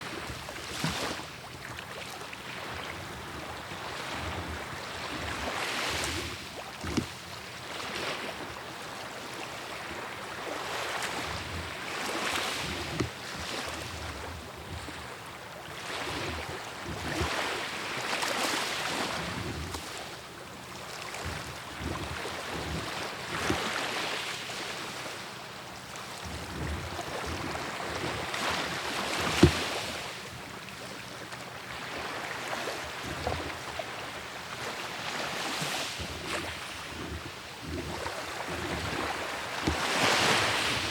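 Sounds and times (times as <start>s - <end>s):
sea waves washing onto shore: 0.0s - 40.9s.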